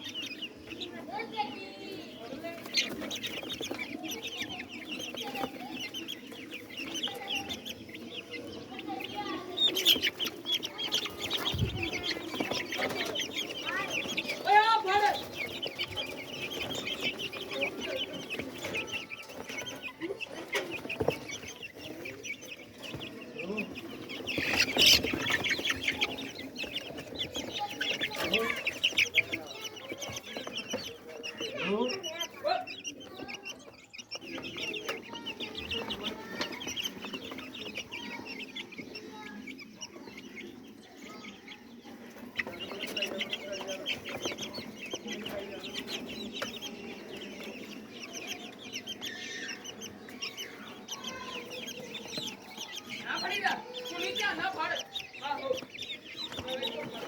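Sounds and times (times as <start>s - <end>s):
chickens clucking and cheeping: 0.0s - 57.0s.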